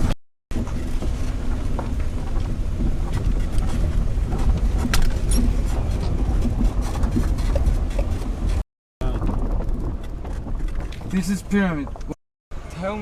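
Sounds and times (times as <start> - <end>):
low rumbling noise: 0.0 - 12.7.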